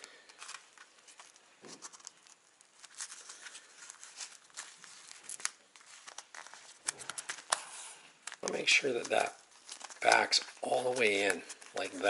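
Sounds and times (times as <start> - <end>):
hands rustling foam and wires: 0.0 - 12.0.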